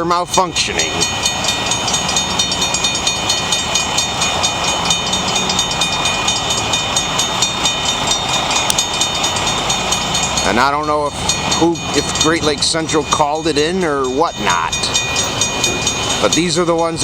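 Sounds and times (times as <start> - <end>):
railroad crossing bells ringing: 0.0 - 17.0.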